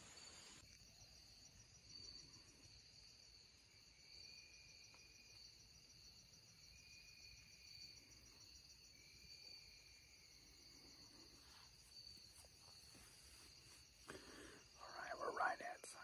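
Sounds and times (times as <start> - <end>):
lower insect trill: 0.0 - 16.0
pulsing insect trill: 0.0 - 16.0
steady high insect trill: 0.0 - 16.0.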